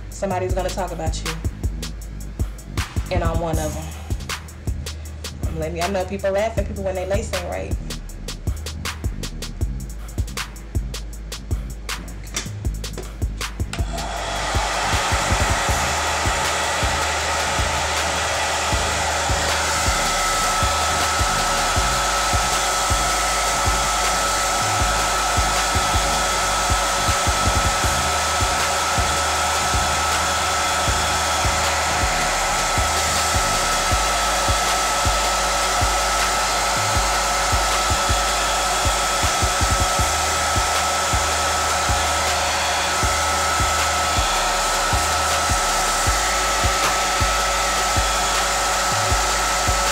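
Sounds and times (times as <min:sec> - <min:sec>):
hair dryer blowing: 0:00.0 - 0:07.6, 0:12.2 - 0:49.9.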